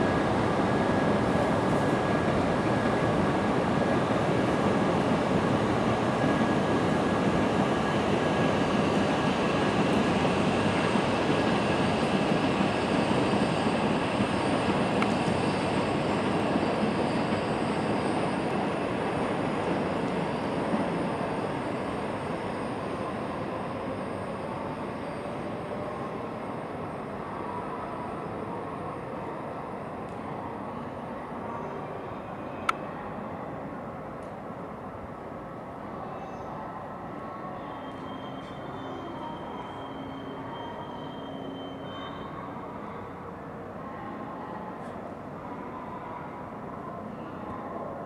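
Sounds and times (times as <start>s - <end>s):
train rumbling and whining: 0.0s - 48.0s.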